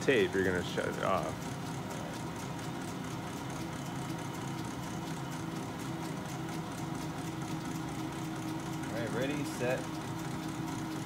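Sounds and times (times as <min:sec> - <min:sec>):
metal lathe humming: 0:00.0 - 0:11.0.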